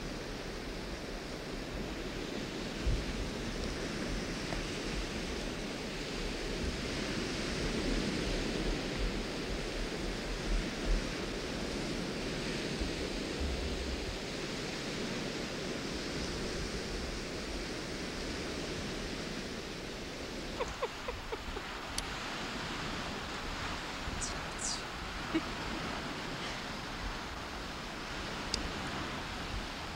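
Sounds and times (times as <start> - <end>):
small waves on sandy shore: 0.0 - 29.9
wind buffeting microphone: 0.0 - 29.9.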